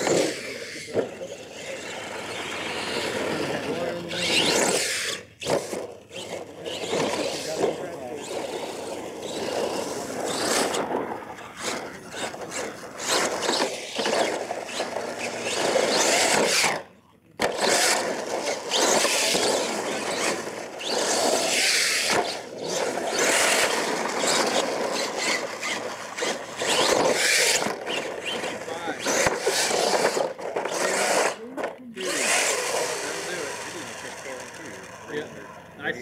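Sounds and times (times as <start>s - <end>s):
toy truck motor and gears: 0.0s - 36.0s
tyres scraping over dirt: 0.0s - 36.0s.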